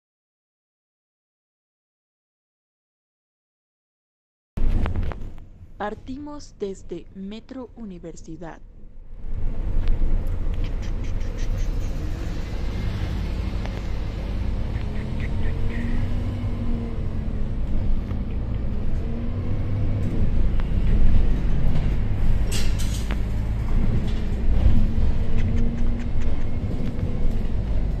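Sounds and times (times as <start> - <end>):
bus engine running: 4.6 - 28.0
road rumble: 4.6 - 28.0.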